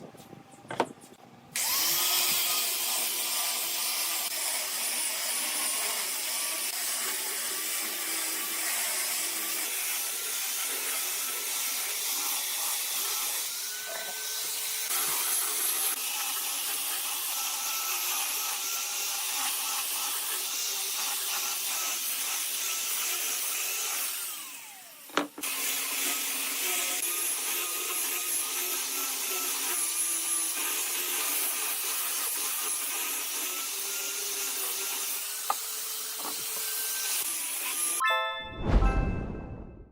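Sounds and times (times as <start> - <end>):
angle grinder sanding wood: 1.0 - 38.0.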